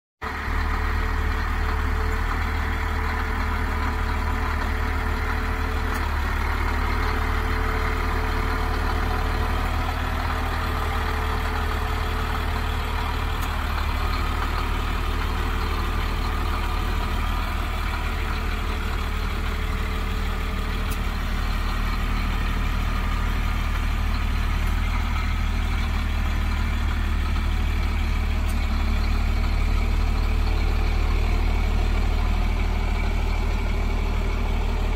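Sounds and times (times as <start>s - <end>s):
truck engine idling: 0.2s - 34.9s.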